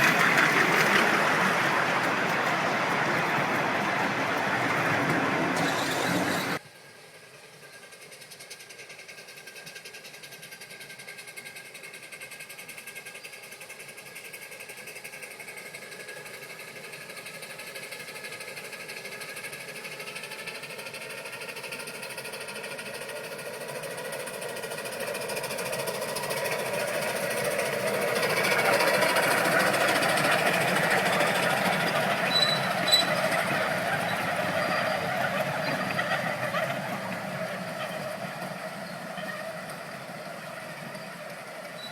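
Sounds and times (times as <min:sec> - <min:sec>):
steam locomotive running: 0:00.0 - 0:41.9.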